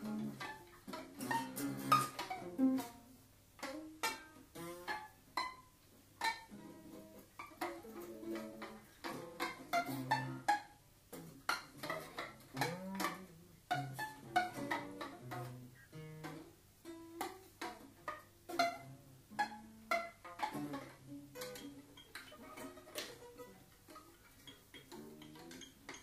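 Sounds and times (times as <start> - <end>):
improvised acoustic music: 0.0 - 26.0.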